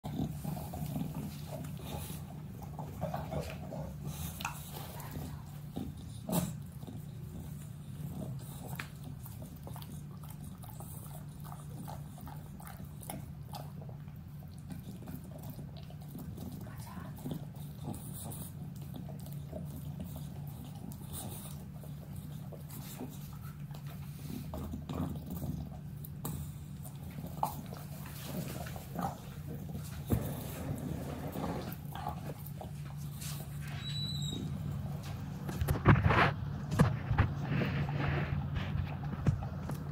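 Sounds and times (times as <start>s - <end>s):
dog chewing with wet smacking: 0.0s - 39.9s
steady low hum: 0.0s - 39.9s.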